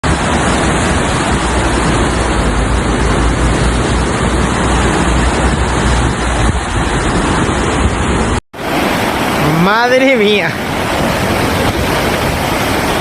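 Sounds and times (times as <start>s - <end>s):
fast-moving water rushing: 0.0s - 13.0s.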